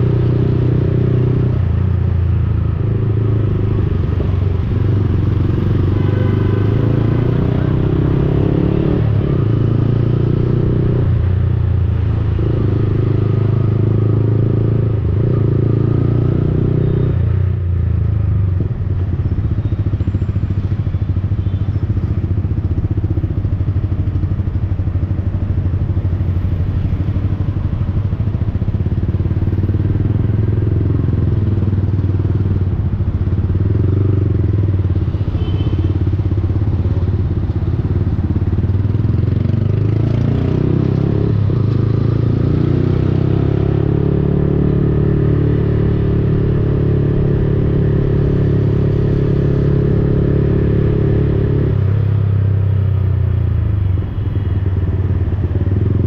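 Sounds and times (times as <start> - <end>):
motorcycle engine revving: 0.0 - 17.7, 18.4 - 56.0.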